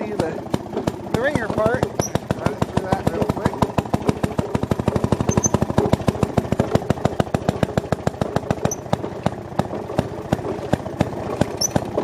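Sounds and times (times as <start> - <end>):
two-stroke engine exhaust pops: 0.0 - 12.0.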